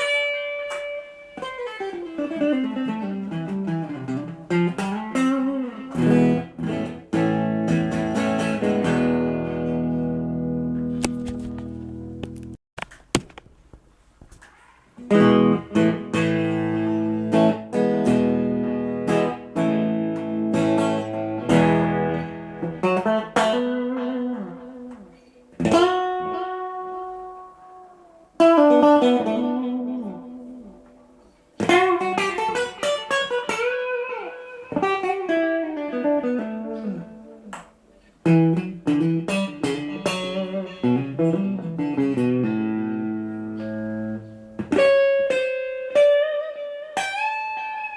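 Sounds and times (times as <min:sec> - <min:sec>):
guitar strumming and bending notes: 0:00.0 - 0:12.6, 0:15.0 - 0:47.9.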